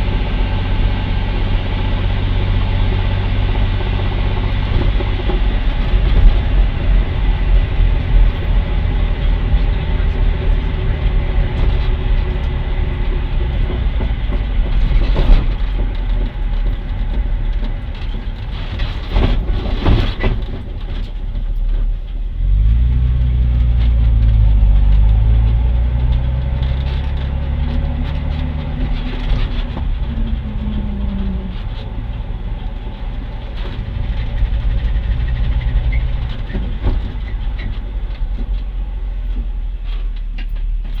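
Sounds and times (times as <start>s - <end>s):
car engine driving: 0.0s - 41.0s
road noise: 0.0s - 41.0s.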